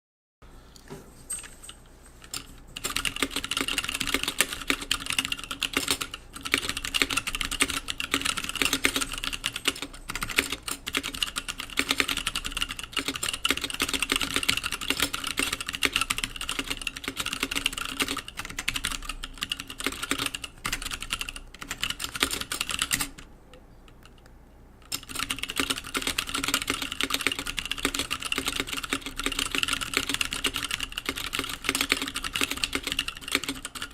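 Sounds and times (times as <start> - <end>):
mechanical keyboard typing: 2.2 - 23.3, 23.9 - 33.9.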